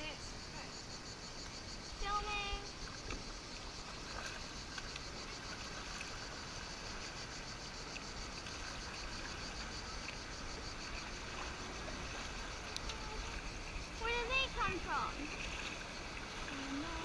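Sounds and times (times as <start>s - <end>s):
insect chirring: 0.0s - 17.0s
muffled water lapping against kayak: 0.0s - 17.0s.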